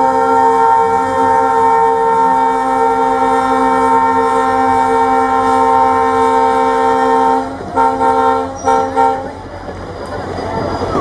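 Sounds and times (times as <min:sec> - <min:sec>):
locomotive horn blasts: 0:00.0 - 0:09.4.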